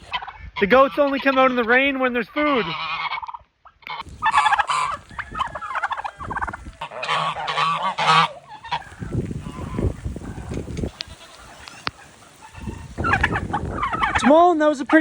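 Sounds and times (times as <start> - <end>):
farm fowl calling loudly: 0.0 - 15.0.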